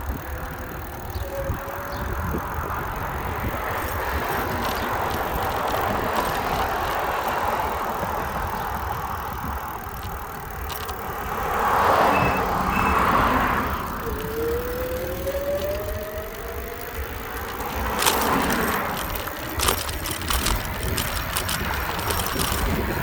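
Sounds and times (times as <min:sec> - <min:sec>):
bicycle riding along road: 0:00.0 - 0:23.0
road noise: 0:00.0 - 0:23.0
wind: 0:00.0 - 0:23.0.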